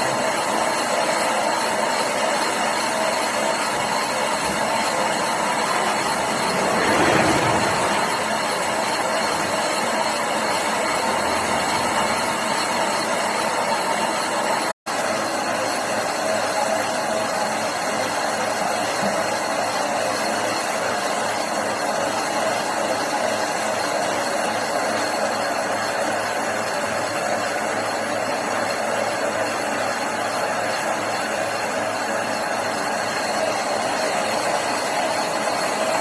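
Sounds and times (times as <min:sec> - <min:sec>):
metal lathe running: 0:00.0 - 0:36.0.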